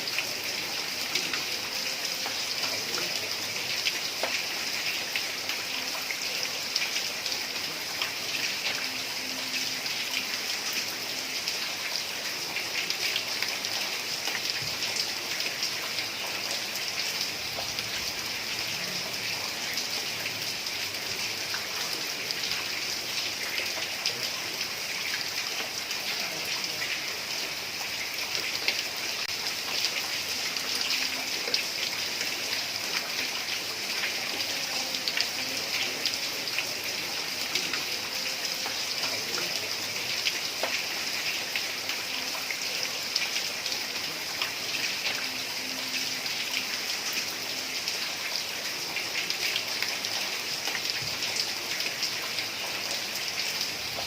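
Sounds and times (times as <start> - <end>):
heavy rain on a tiled roof: 0.0 - 54.0.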